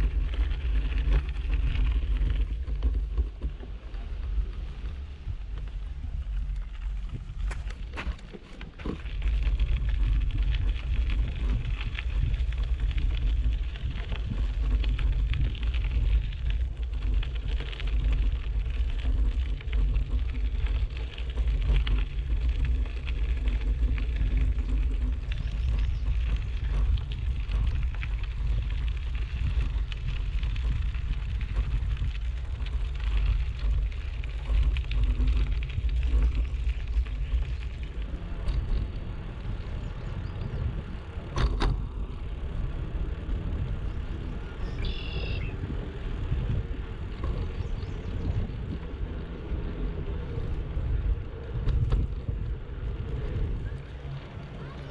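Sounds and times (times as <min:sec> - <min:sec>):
hiss of bicycle riding: 0:00.0 - 0:54.9
wind buffeting microphone: 0:00.0 - 0:54.9.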